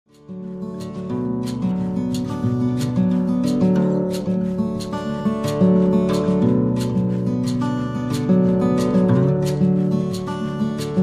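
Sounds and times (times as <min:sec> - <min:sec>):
plucked guitar tune: 0:00.1 - 0:11.0.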